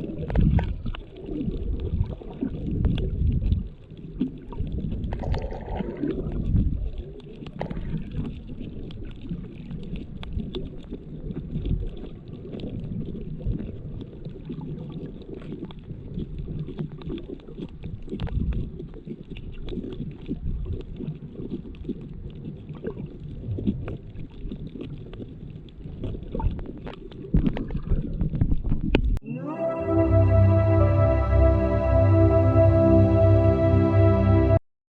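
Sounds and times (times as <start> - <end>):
muffled underwater water rumbling: 0.0 - 34.6.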